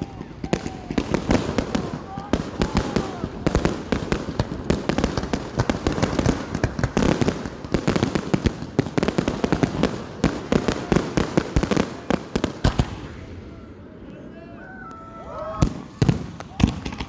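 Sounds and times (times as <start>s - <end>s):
fireworks banging: 0.0s - 14.3s, 15.6s - 17.0s.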